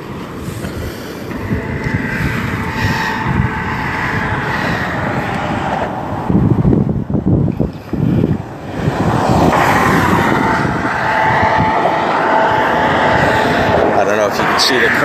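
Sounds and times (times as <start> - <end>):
cars passing: 0.0 - 15.0
heavy low rumble: 0.0 - 15.0
whine: 0.0 - 15.0.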